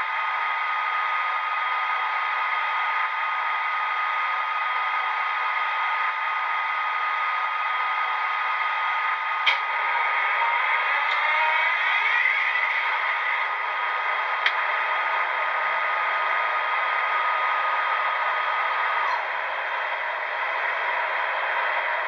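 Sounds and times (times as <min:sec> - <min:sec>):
model locomotive engine hum: 0:00.0 - 0:22.0.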